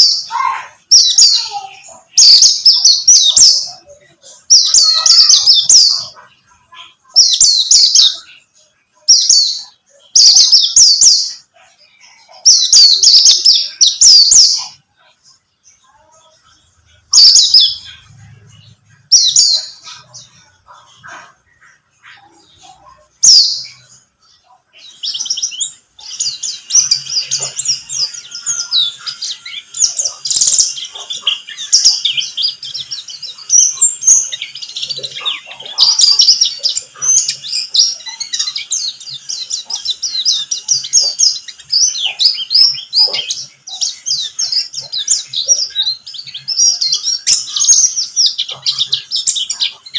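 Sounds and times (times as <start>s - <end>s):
bird chirping: 0.0s - 49.9s
bird twittering song: 0.0s - 49.9s.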